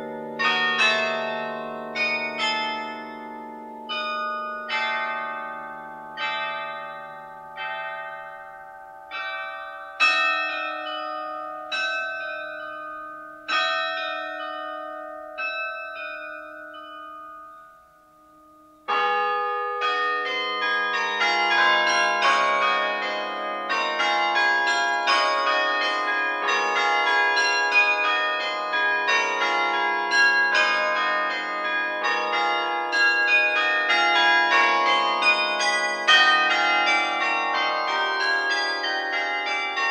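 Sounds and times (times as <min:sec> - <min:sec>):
carillon bells ringing: 0:00.0 - 0:17.8, 0:18.9 - 0:39.9.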